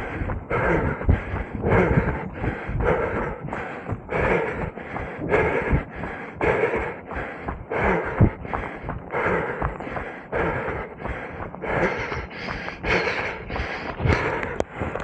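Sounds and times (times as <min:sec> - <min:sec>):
runner breathing hard: 0:00.0 - 0:15.0.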